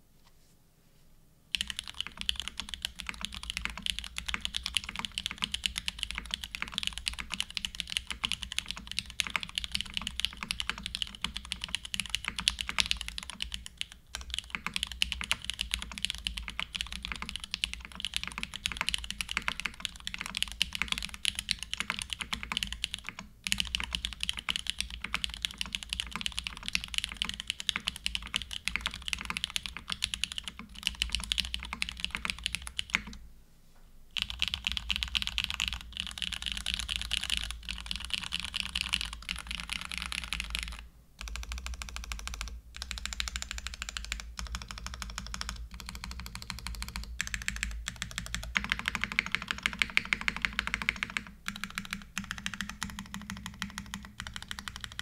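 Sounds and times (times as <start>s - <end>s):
fast typing on mechanical keyboard: 1.5s - 33.2s, 34.2s - 55.0s.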